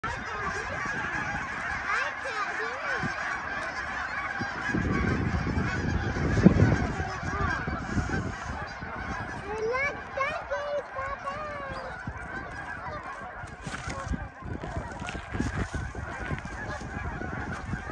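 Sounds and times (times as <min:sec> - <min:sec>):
geese honking: 0:00.0 - 0:17.9.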